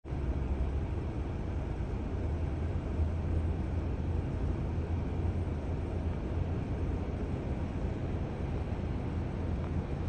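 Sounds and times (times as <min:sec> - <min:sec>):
jet engines rumbling: 0:00.1 - 0:10.0.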